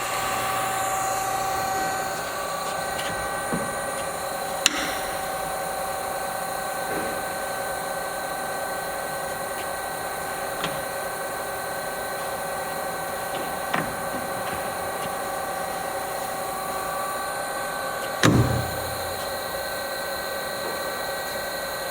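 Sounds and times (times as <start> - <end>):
lathe whine: 0.0 - 21.9.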